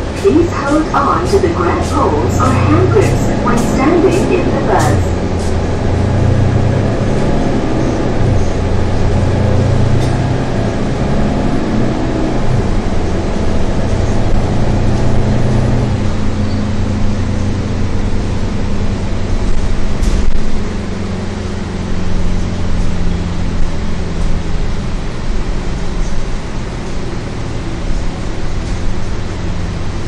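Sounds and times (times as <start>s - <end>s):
bus diesel engine running: 0.0s - 30.0s
road noise: 0.0s - 30.0s.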